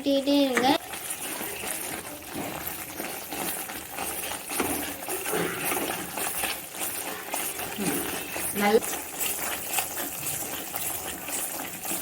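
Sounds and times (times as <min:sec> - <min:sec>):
spatula stirring sticky food in pan: 0:00.0 - 0:12.0.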